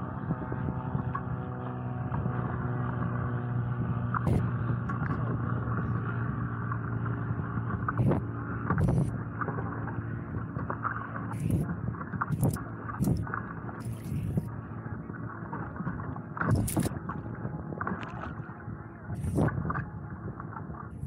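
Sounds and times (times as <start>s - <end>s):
small boat motor humming: 0.0s - 21.0s.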